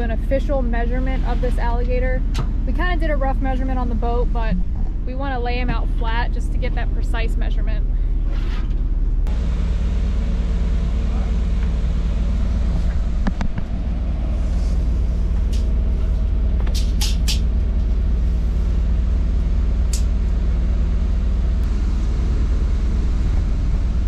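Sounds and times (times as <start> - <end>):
refrigerated truck droning: 0.0 - 24.0.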